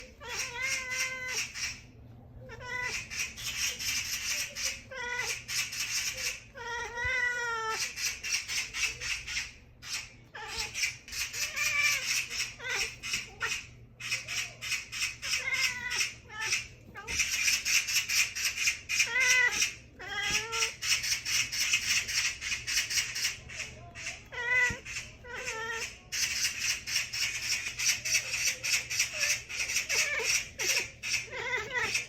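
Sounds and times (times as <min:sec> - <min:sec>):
cat chattering: 0:00.0 - 0:32.0.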